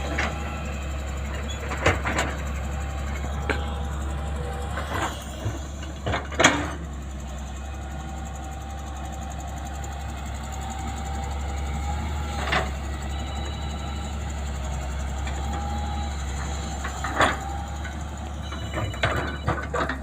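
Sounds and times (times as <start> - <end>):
backhoe engine running: 0.0 - 20.0.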